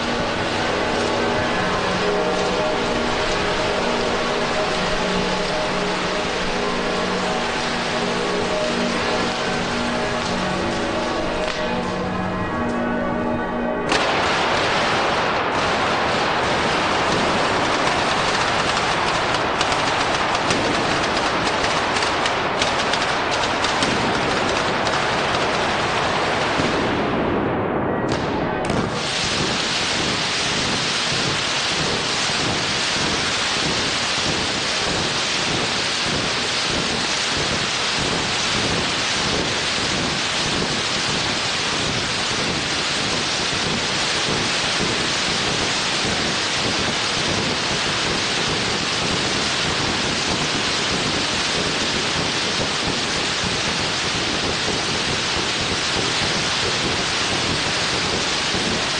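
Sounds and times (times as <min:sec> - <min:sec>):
firecrackers crackling: 0:00.0 - 0:58.9.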